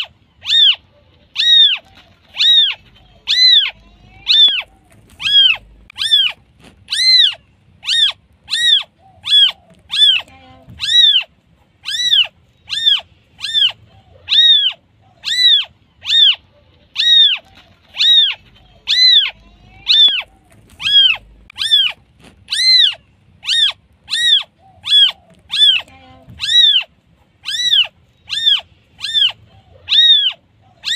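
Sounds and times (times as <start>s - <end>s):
kitten meowing: 0.0s - 0.8s, 1.4s - 30.9s.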